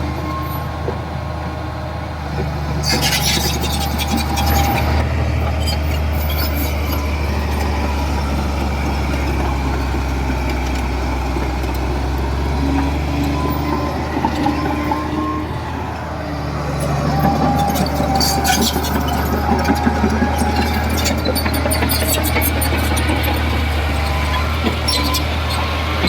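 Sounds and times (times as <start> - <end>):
heavy diesel engine drone: 0.0 - 26.0.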